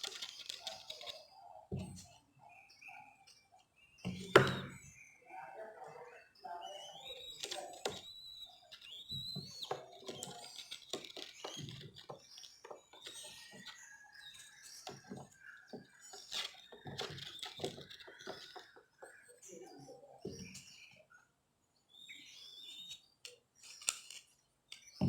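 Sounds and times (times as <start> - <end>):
chicks squeaking: 0.0 - 25.0.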